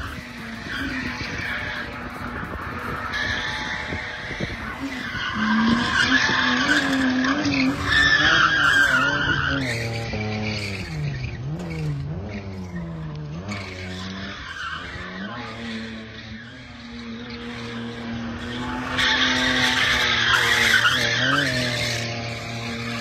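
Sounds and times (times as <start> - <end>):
tyres squealing: 0.0 - 12.4, 13.4 - 23.0
car engine revving: 0.0 - 23.0.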